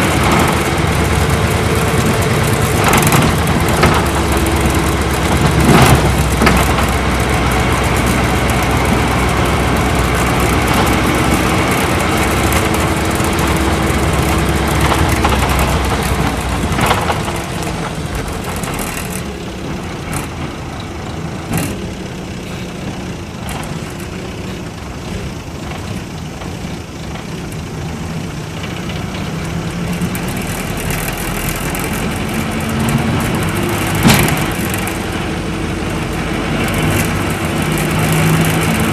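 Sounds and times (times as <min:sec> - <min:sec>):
bus diesel engine under load: 0:00.0 - 0:38.9
knocks and rattles: 0:00.0 - 0:38.9.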